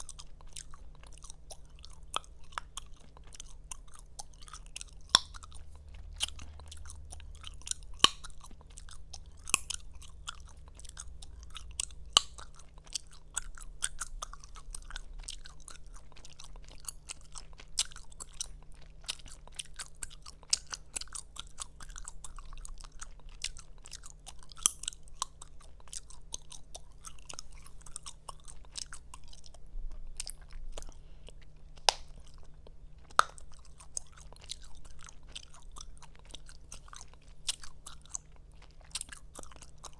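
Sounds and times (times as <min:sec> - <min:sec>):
gum popping snaps: 0:00.0 - 0:30.9, 0:31.8 - 0:39.9
gum chewing smacks: 0:00.0 - 0:39.9.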